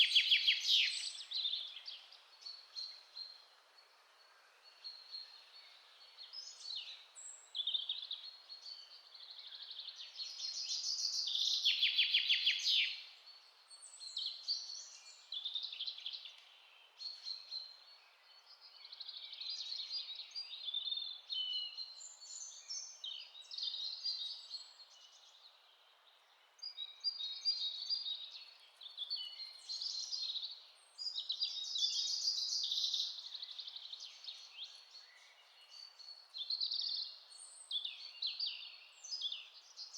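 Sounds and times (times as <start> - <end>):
birds singing and calling: 0.0 - 3.4, 4.6 - 25.4, 26.6 - 39.9.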